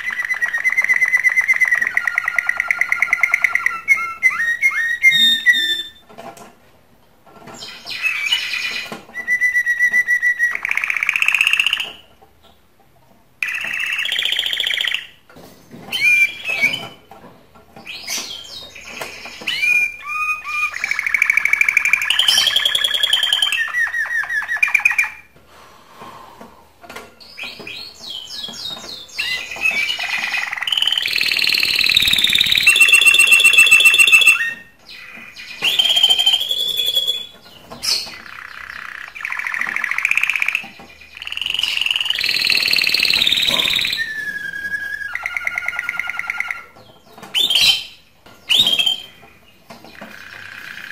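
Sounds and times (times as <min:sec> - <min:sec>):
canary singing trills: 0:00.0 - 0:06.1, 0:07.5 - 0:12.1, 0:13.4 - 0:15.2, 0:17.8 - 0:25.3, 0:27.2 - 0:50.9.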